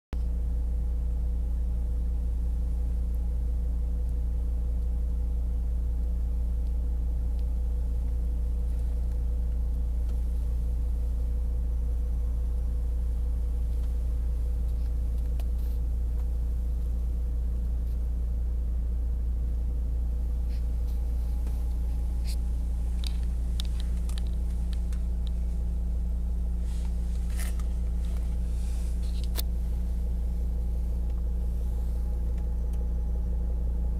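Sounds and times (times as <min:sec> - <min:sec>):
diesel engine idling: 0:00.3 - 0:33.9.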